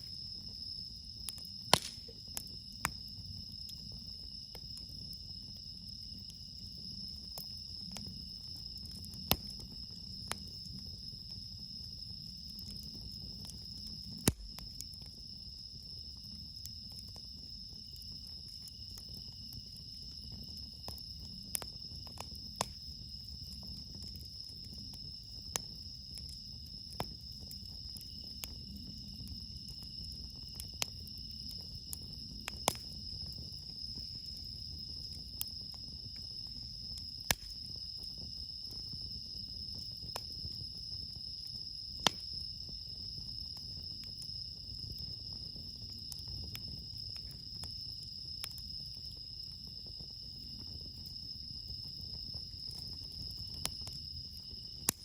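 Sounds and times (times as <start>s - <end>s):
campfire crackling and popping: 0.0s - 55.0s
crickets chirping: 0.0s - 55.0s.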